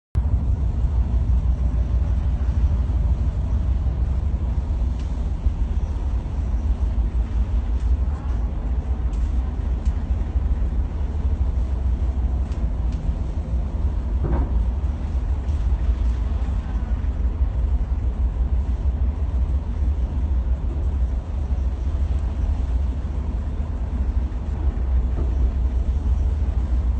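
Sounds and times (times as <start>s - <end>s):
low engine rumble: 0.2s - 26.9s.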